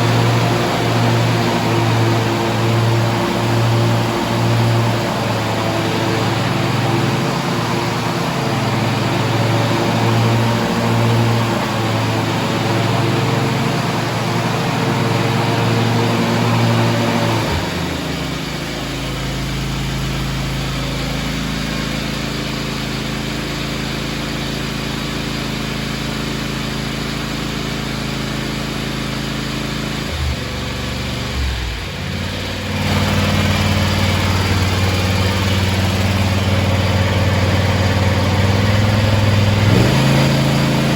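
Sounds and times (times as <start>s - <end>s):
garden tractor engine running: 0.0s - 40.9s.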